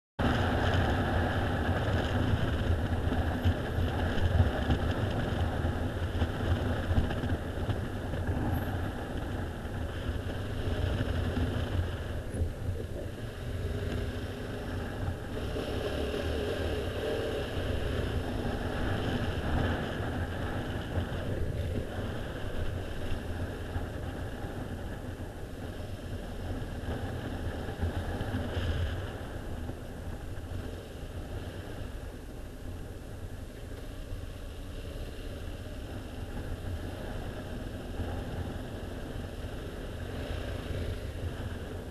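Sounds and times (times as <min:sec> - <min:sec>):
motorcycle engine at low speed: 0:00.2 - 0:41.9
road and wind rumble: 0:00.2 - 0:41.9.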